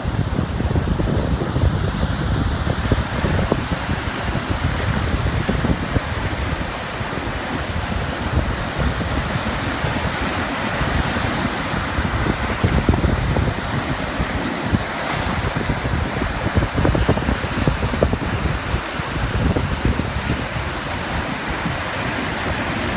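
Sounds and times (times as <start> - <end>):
small waves lapping on beach: 0.0 - 22.9
wind buffeting microphone: 0.0 - 22.9.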